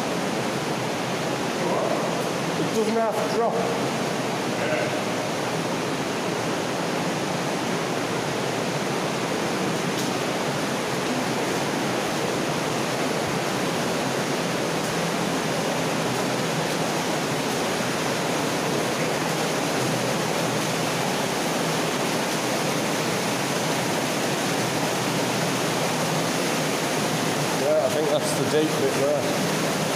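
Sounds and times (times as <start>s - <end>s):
water rushing through culvert: 0.0s - 29.9s.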